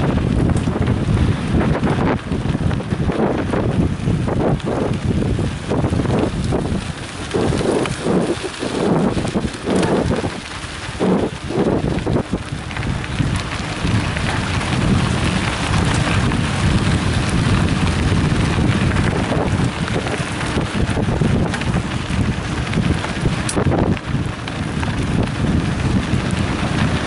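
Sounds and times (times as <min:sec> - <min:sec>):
bike tyres rolling on gravel: 0:00.0 - 0:27.0
wind buffeting microphone: 0:00.0 - 0:27.0.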